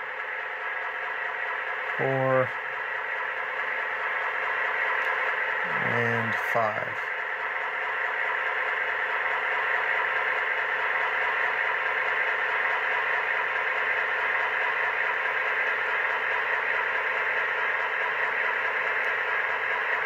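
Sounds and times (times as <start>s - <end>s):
model locomotive diesel sound: 0.0s - 20.0s.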